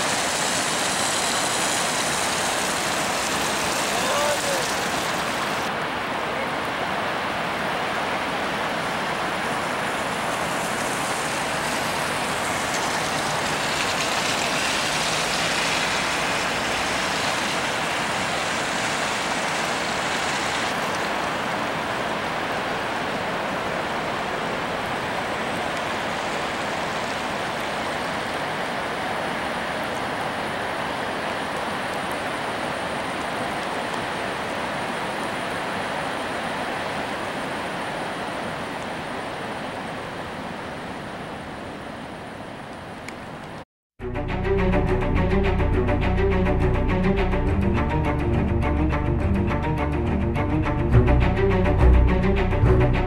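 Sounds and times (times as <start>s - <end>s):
floodwater rushing and churning: 0.0s - 43.6s.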